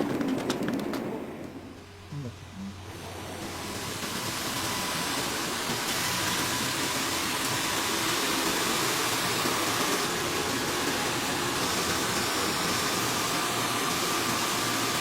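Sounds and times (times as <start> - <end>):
knitting machines whirring: 2.6 - 15.0.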